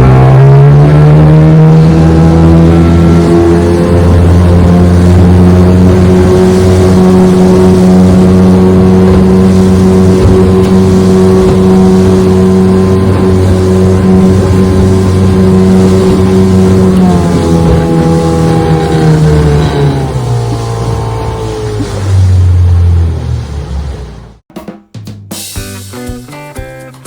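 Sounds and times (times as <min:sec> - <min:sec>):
outboard motor droning: 0:00.0 - 0:24.4.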